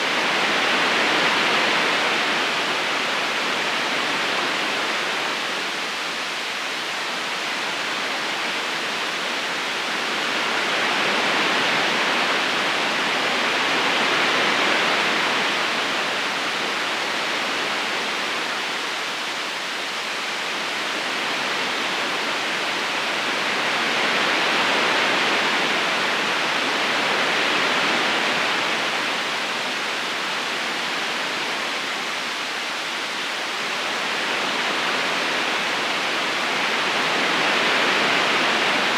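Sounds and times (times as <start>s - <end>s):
river current rushing: 0.0s - 38.9s.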